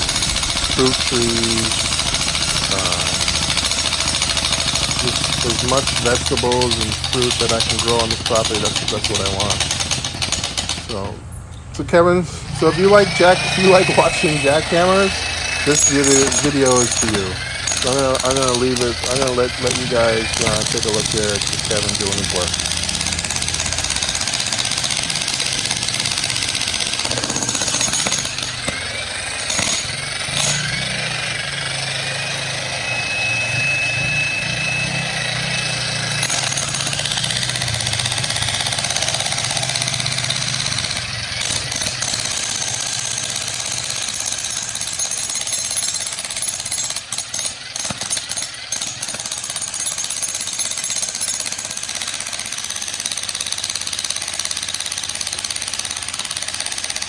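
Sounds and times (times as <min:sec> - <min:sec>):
jackhammer hammering: 0:00.0 - 0:57.0.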